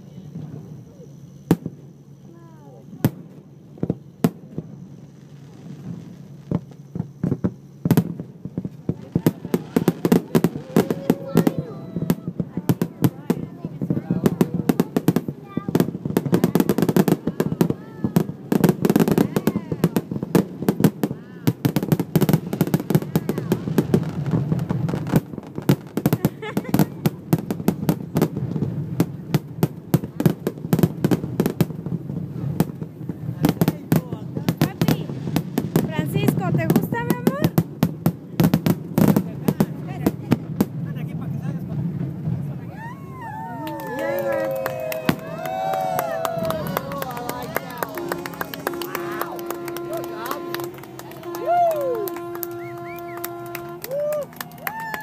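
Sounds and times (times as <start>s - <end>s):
fireworks cracking: 2.7s - 55.0s.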